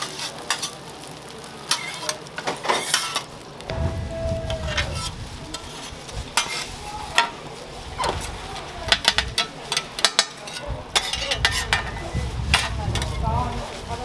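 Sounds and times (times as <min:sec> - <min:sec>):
food sizzling on a griddle: 0:00.0 - 0:14.0.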